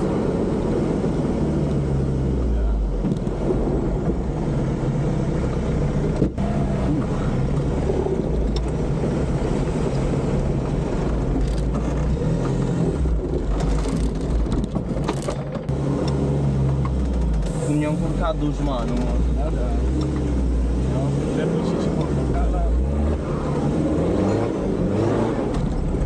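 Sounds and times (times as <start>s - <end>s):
engine running at low revs: 0.0s - 26.0s.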